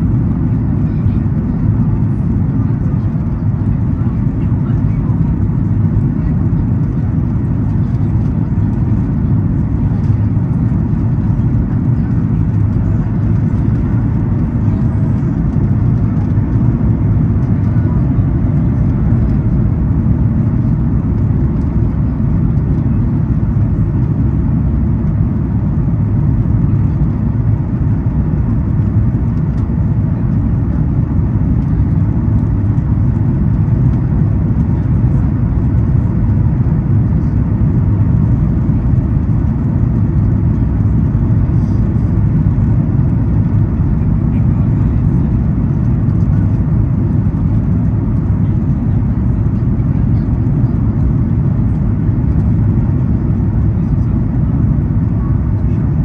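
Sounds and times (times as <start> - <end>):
airflow and jet engine roar in cabin: 0.0 - 56.0.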